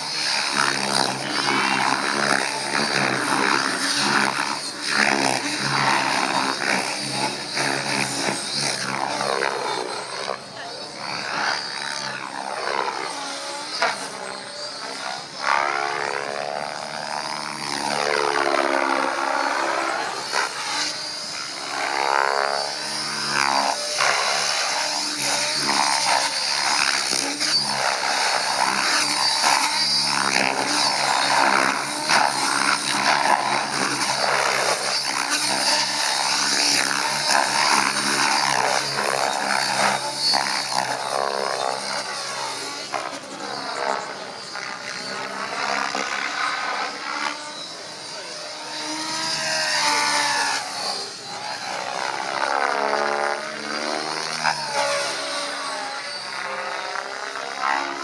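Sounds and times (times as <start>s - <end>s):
rc helicopter whine and rotors: 0.0s - 58.0s.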